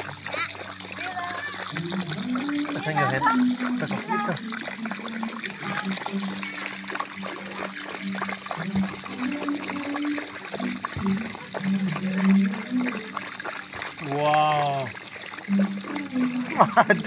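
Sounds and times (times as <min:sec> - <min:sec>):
dogs lapping water: 0:00.0 - 0:17.0
hose water splashing into dish: 0:00.0 - 0:17.0.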